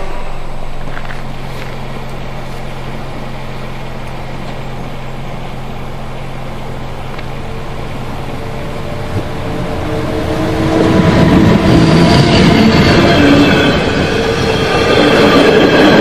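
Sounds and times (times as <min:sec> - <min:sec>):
electric locomotive humming: 0:00.0 - 0:16.0.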